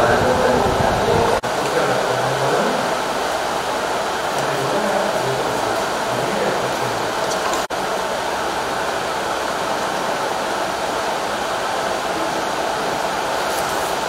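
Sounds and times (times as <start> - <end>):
loud steady hiss: 0.0 - 14.0.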